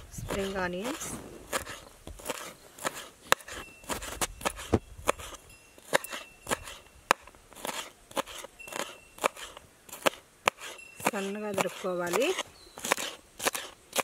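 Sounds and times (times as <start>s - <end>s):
knife chopping on wooden board: 0.0s - 14.0s.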